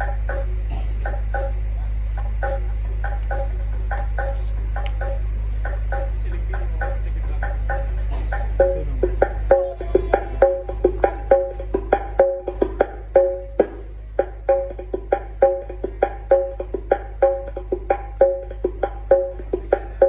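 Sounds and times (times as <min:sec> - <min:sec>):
deep bass: 0:00.0 - 0:20.0
pitched percussion hits: 0:00.0 - 0:20.0.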